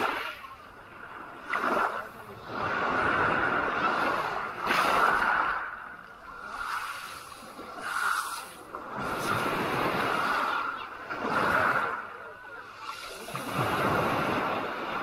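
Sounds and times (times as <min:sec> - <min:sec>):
small waves washing over pebbles: 0:00.0 - 0:15.0.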